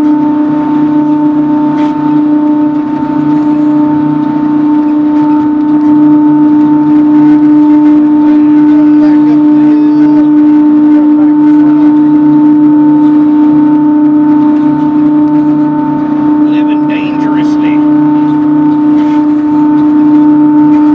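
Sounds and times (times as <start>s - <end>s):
sawmill machine humming: 0.0s - 20.9s.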